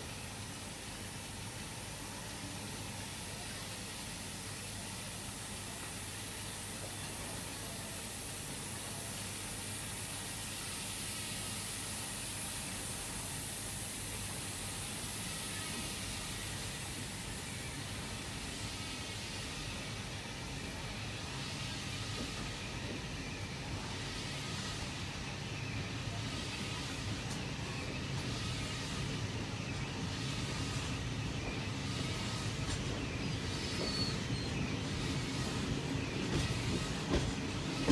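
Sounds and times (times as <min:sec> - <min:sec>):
moving train rushing hiss: 0:00.0 - 0:37.9.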